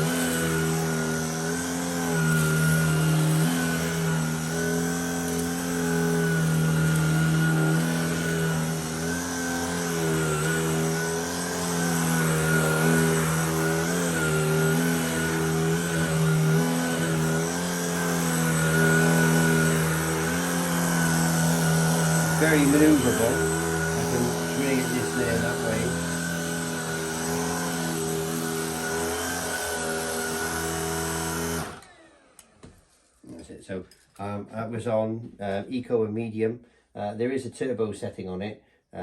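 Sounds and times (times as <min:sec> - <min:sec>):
vacuum cleaner on carpet: 0:00.0 - 0:33.0.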